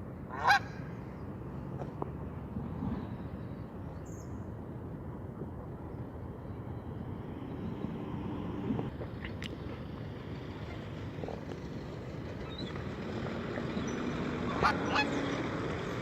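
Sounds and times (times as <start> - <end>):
low outdoor background noise: 0.0 - 16.0.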